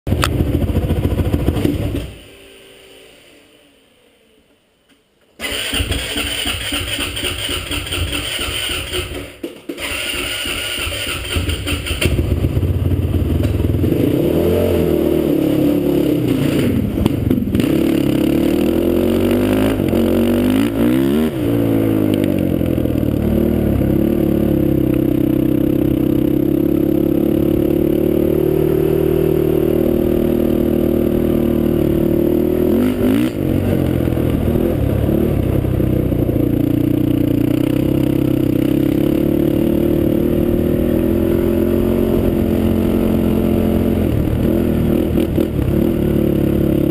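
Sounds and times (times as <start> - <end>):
quad engine running loudly: 5.4 - 46.9.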